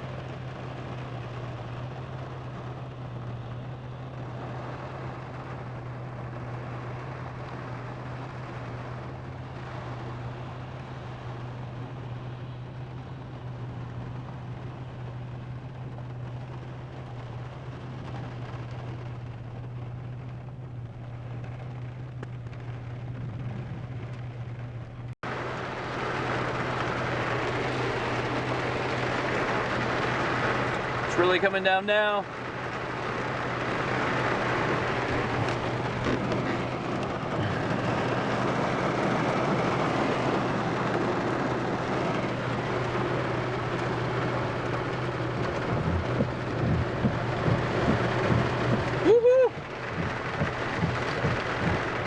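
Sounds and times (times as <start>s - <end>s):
car engine idling: 0.0s - 52.0s
rain falling on a car: 0.0s - 52.0s.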